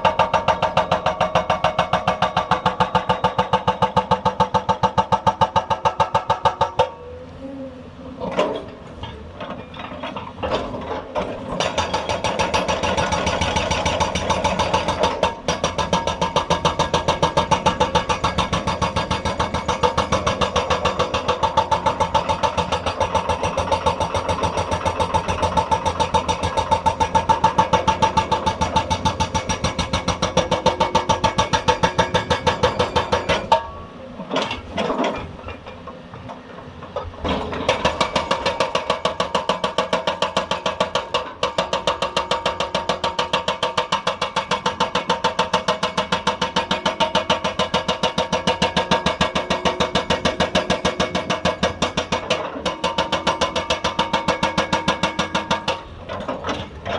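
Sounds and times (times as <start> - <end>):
hydraulic breaker hammering rock: 0.0 - 7.2, 8.2 - 56.9
excavator engine running: 0.0 - 56.9.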